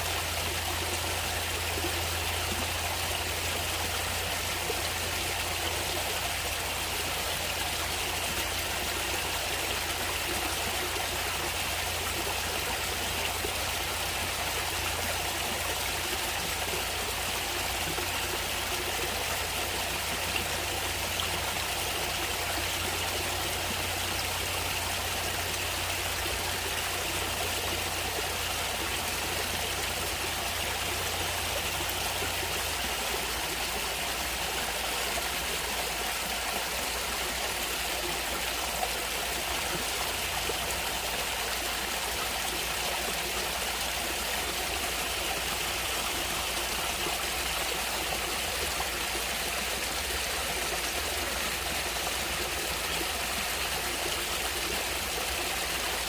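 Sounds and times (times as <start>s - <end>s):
water flowing: 0.0s - 56.0s.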